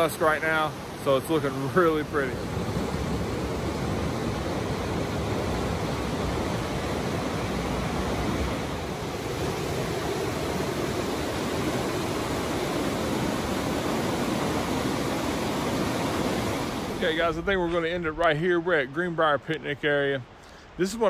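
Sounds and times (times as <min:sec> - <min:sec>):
stream rushing over boulders: 0:00.0 - 0:21.0.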